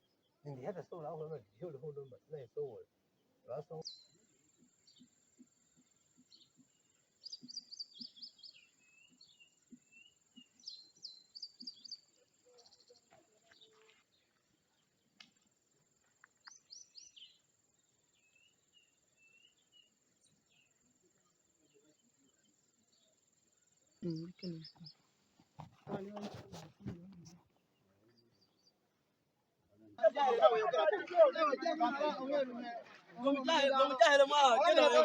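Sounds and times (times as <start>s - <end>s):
small birds chirping: 0.0s - 29.1s.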